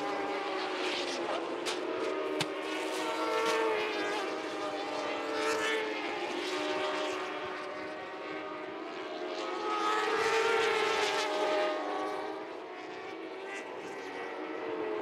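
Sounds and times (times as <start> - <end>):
racing motorcycle engines passing: 0.0 - 15.0.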